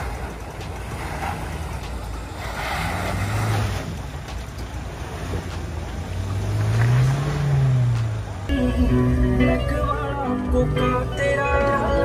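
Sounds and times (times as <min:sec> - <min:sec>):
engine revving under load: 0:00.0 - 0:09.8.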